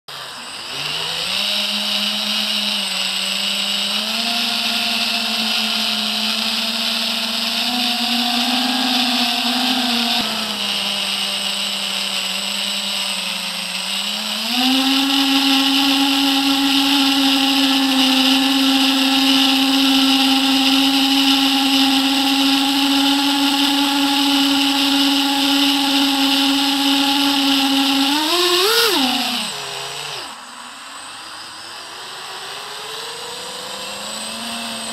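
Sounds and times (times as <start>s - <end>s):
quadcopter motors whining: 0.1s - 34.9s.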